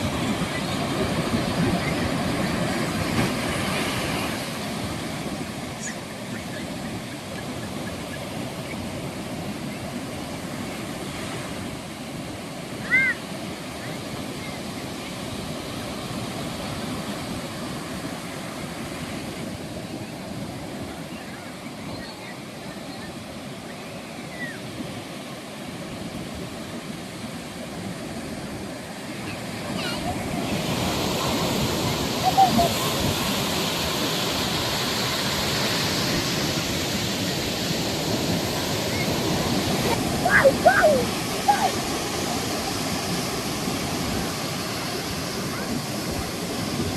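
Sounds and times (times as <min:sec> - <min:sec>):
ocean surf washing onto beach: 0:00.0 - 0:46.9.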